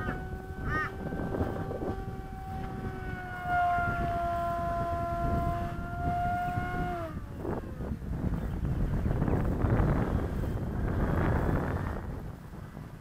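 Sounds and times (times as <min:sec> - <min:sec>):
rc plane motor whining: 0:00.0 - 0:13.0
wind rumbling on microphone: 0:00.0 - 0:13.0.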